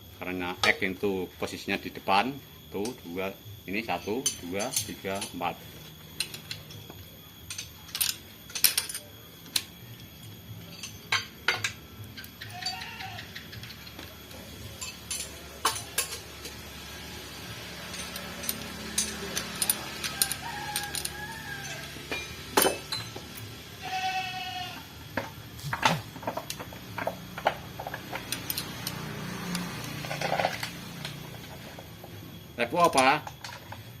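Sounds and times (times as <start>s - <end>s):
hand tools clinking on engine: 3.7s - 9.8s, 10.6s - 24.2s, 25.2s - 34.0s.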